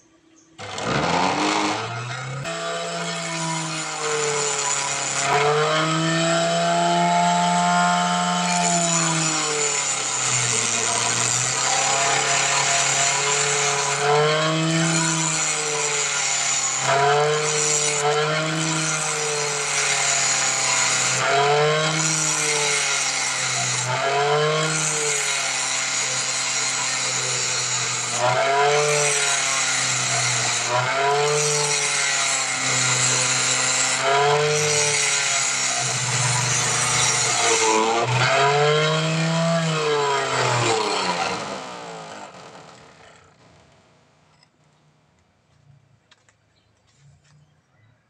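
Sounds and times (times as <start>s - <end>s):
steel rod grinding on wheel: 0.6s - 43.2s
grinder motor hum: 0.6s - 43.8s.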